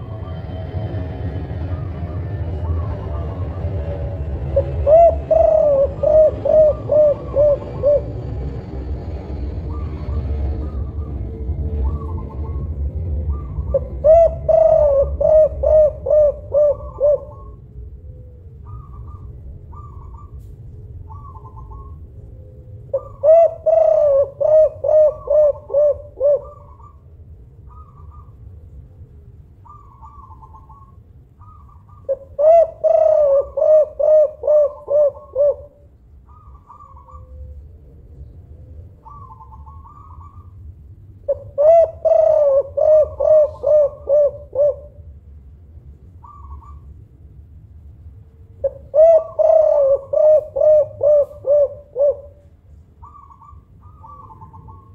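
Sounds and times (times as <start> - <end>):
low rumble: 0.0 - 54.9
dove cooing: 2.6 - 40.6, 41.2 - 45.2, 46.2 - 46.9, 48.6 - 54.9.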